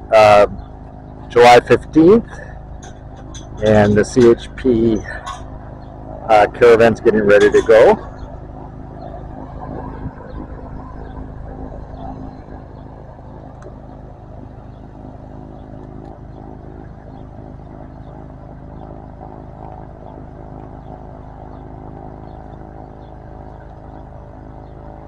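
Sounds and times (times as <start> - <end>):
turboprop engine idling: 0.0 - 25.0.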